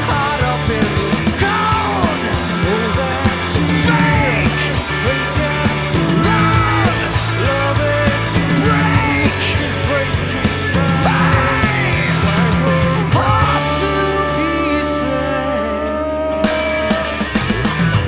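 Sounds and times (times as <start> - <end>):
bass guitar: 0.0 - 18.0
drums: 0.0 - 18.0.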